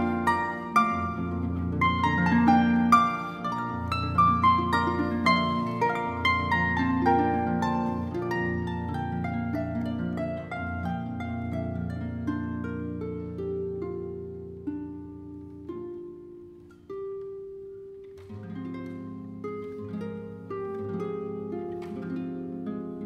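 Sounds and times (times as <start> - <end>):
harp plucked notes: 0.0 - 23.0.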